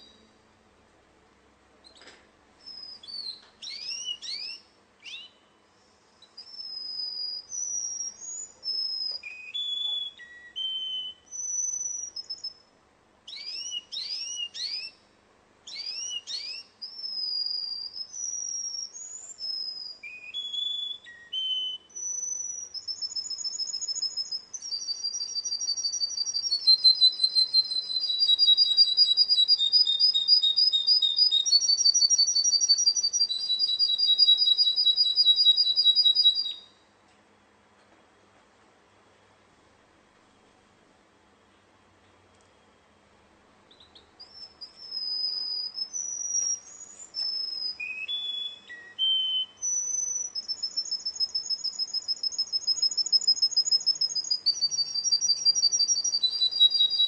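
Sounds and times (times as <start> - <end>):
canary singing: 0.0 - 0.3, 1.8 - 5.6, 6.2 - 36.8, 43.7 - 57.0.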